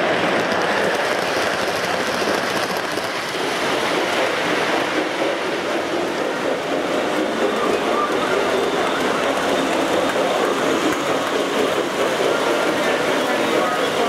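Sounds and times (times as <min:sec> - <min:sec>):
model train wheels on rail: 0:00.0 - 0:14.0.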